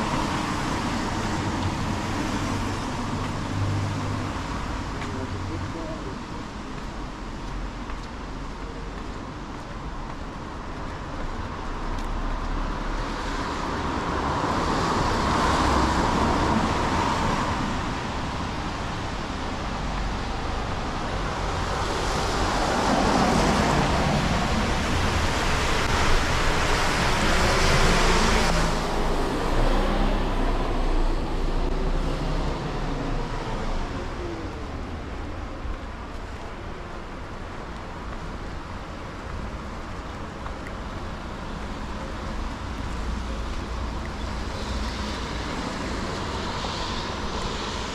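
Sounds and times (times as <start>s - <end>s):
tyres hissing on wet road: 0.0s - 9.5s, 11.3s - 47.9s.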